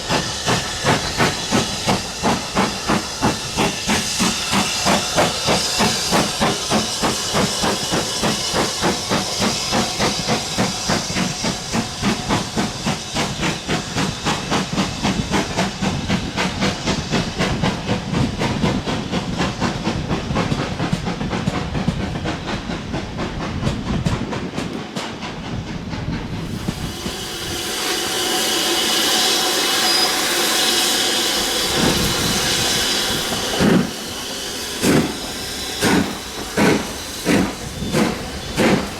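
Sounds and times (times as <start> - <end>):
steam hissing: 0.0 - 38.9
steam locomotive exhaust beats: 0.0 - 38.9.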